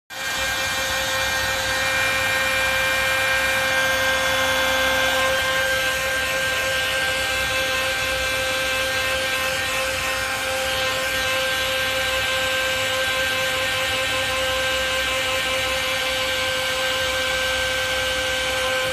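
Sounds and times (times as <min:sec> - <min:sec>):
hair dryer running: 0:00.1 - 0:18.9.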